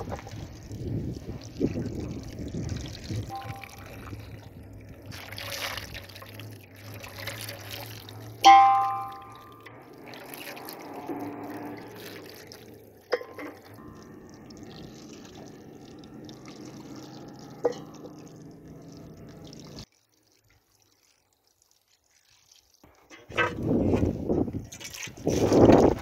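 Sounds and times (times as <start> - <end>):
water pouring from a jug: 0.0 - 26.0.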